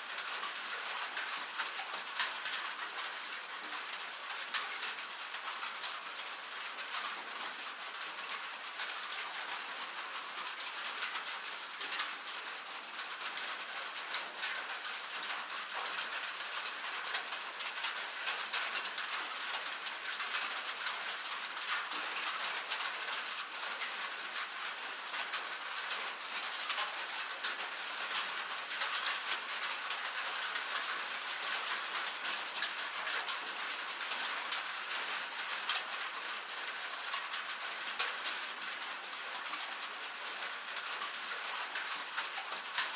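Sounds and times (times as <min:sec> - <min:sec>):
rain on a metal roof: 0:00.0 - 0:42.9.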